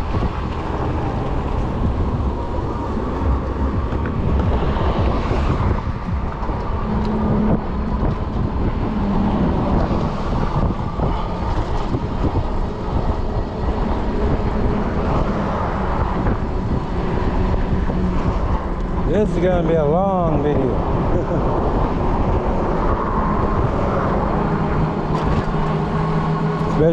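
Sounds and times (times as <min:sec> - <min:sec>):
rolling road noise: 0:00.0 - 0:26.9
wind buffeting microphone: 0:00.0 - 0:26.9.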